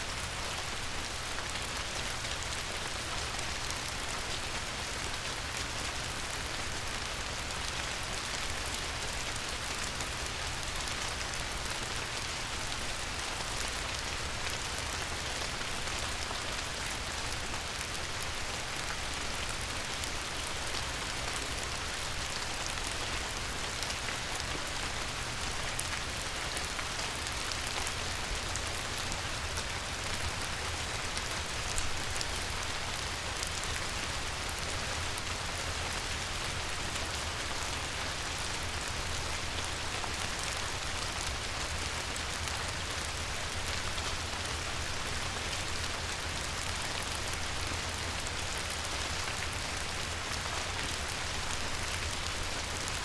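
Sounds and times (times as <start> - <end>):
light rain on a river: 0.0 - 53.0.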